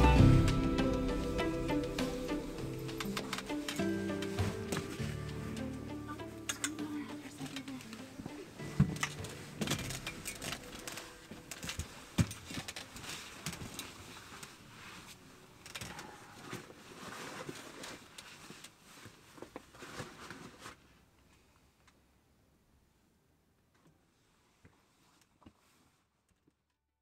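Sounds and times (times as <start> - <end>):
rustling: 0.0 - 21.6, 23.8 - 26.4.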